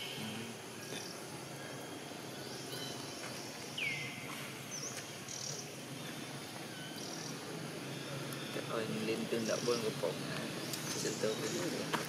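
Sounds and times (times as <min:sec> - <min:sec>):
background hiss: 0:00.0 - 0:12.0
bird chirp: 0:00.0 - 0:12.0.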